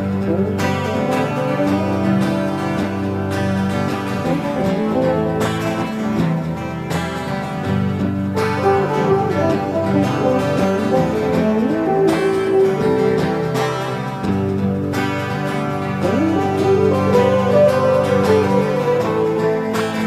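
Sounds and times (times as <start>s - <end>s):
plucked acoustic guitar music: 0.0s - 20.0s.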